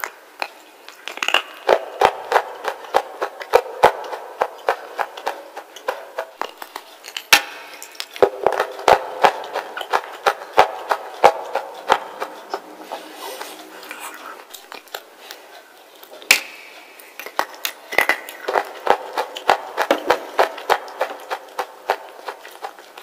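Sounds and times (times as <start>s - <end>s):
crunching and chewing: 0.4s - 23.0s.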